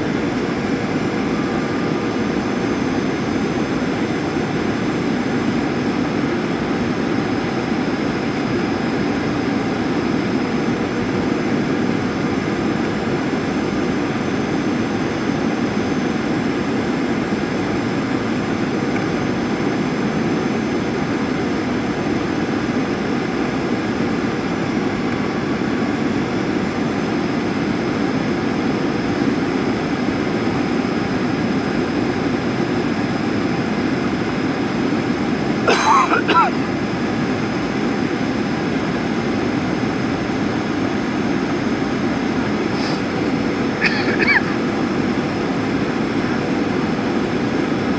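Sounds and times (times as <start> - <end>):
airflow rush in cabin: 0.0 - 47.9
jet engines humming: 0.0 - 47.9.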